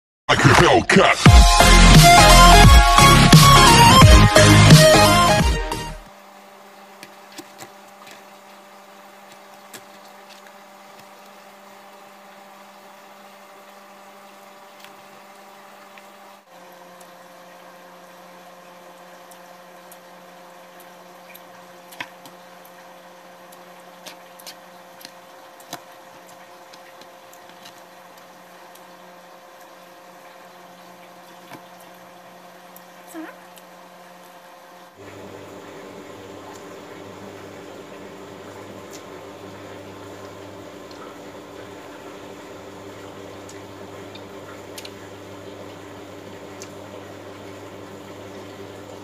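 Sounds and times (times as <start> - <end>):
electrical hum: 0.3 - 49.0.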